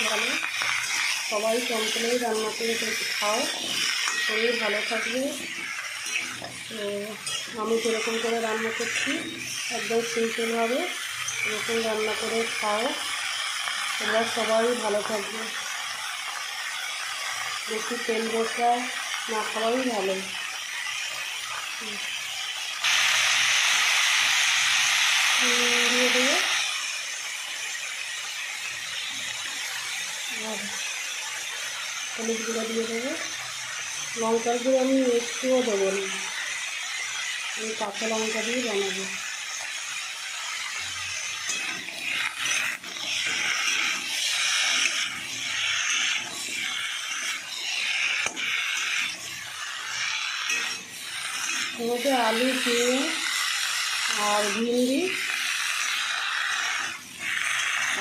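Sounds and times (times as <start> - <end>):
steady hiss: 0.0 - 58.0
vegetables sizzling in a pan: 0.0 - 58.0.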